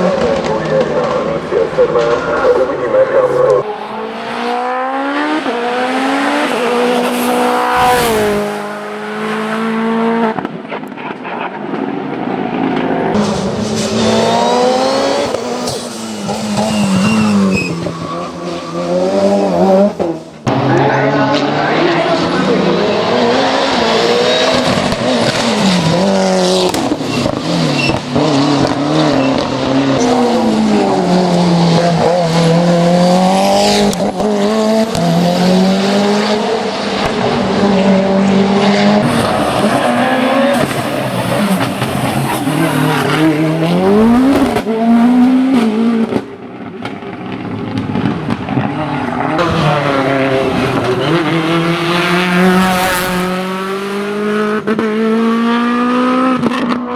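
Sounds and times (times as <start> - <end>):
racing car engine: 0.0 - 56.9.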